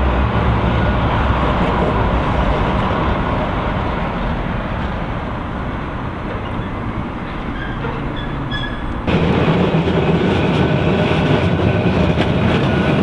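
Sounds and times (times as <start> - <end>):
traffic noise: 0.0 - 13.0
tram wheels and motors rumbling: 0.0 - 13.0.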